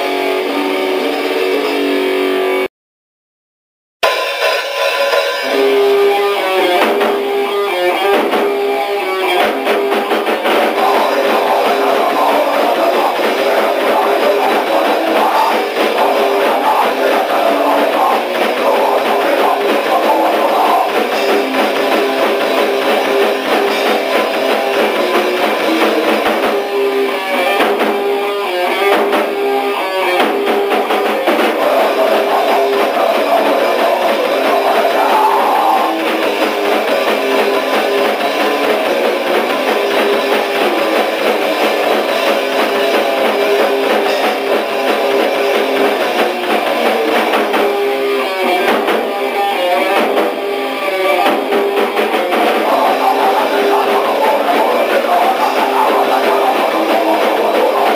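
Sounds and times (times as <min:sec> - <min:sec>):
punk band playing: 0:00.0 - 0:02.7, 0:04.0 - 0:57.9.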